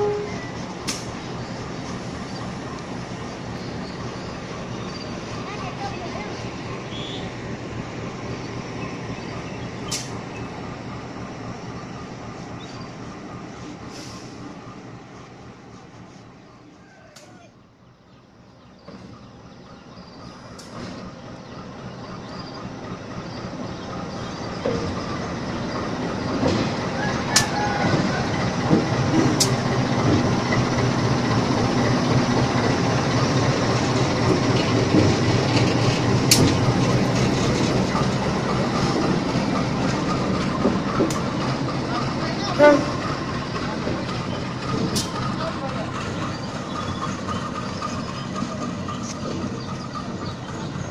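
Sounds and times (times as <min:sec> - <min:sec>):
locomotive engine droning: 0:00.0 - 0:50.9.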